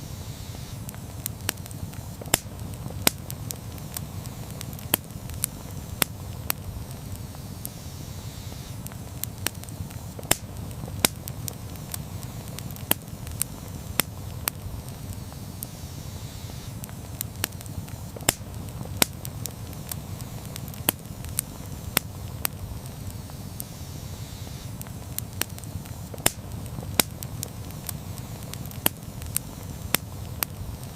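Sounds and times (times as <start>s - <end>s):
campfire flames rumbling: 0.0s - 30.9s
wood crackling and popping: 0.5s - 30.9s.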